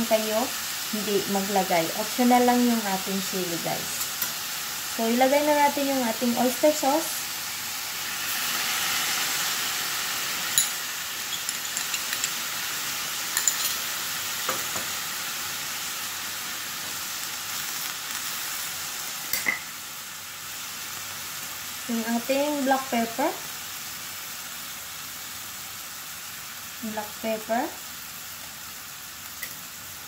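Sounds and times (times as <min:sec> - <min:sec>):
vegetables sizzling in a pan: 0:00.0 - 0:30.0.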